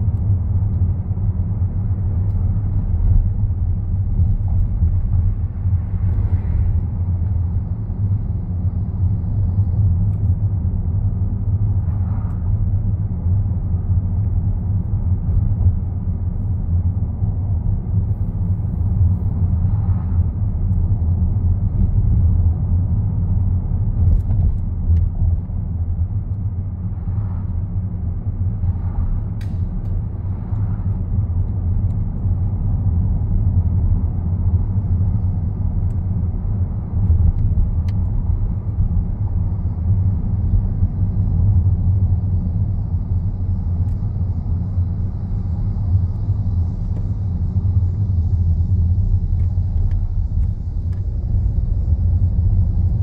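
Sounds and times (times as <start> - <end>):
car interior road rumble: 0.0 - 53.0.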